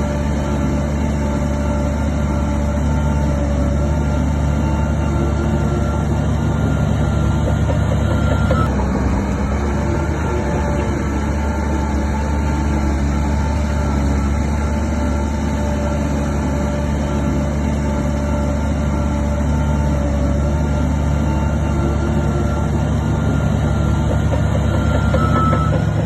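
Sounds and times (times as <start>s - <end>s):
engine whine: 0.0s - 26.0s
heavy machine engine rumbling: 0.0s - 26.0s.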